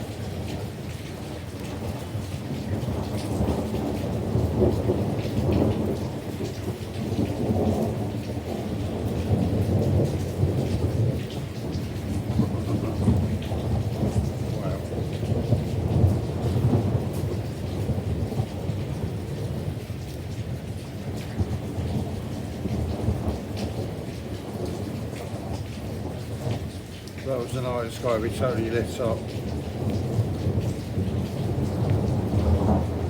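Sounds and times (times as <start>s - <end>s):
steady rain: 0.0s - 33.0s
thunder rumbling: 0.0s - 33.0s.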